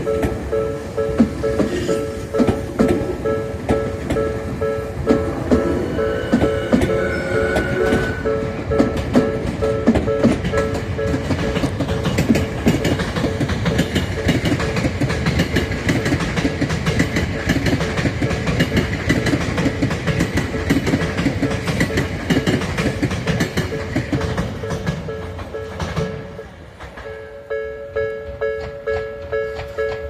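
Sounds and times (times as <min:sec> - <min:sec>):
steady train rumble: 0:00.0 - 0:30.0
train wheels clattering: 0:00.0 - 0:30.0.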